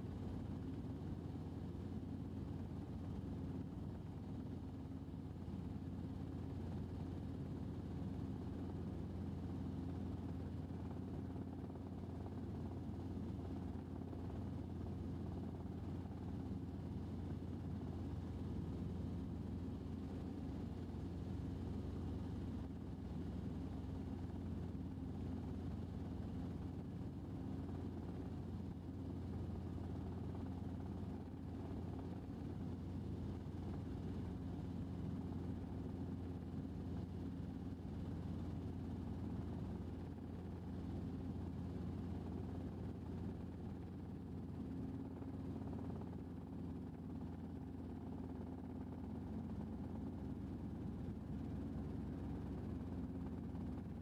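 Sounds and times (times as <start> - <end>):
helicopter engine and rotor hum: 0.0 - 54.0.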